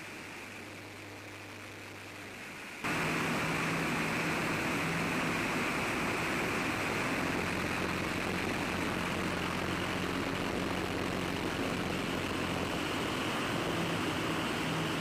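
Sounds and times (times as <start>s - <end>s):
propeller drone: 0.0s - 15.0s
wind rush: 2.9s - 15.0s.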